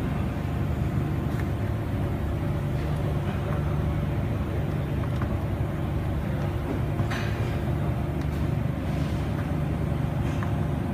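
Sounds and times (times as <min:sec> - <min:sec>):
low background rumble: 0:00.0 - 0:10.9.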